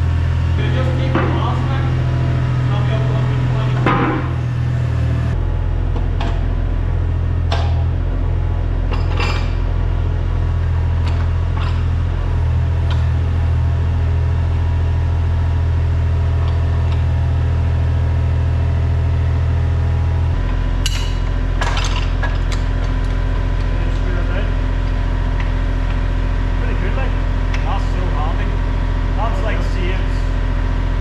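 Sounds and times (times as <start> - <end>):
engine running low: 0.0 - 31.0.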